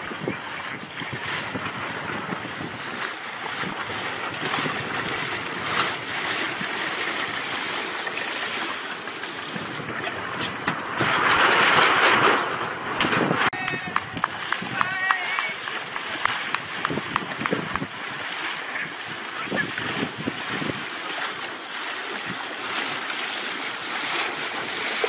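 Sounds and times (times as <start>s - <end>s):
water rushing at boat bow: 0.0s - 25.0s
wind rustling over microphone: 0.0s - 25.0s.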